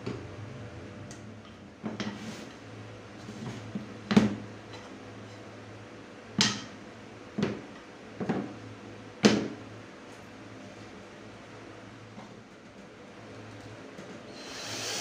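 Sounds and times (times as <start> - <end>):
low steady hum: 0.0 - 14.4.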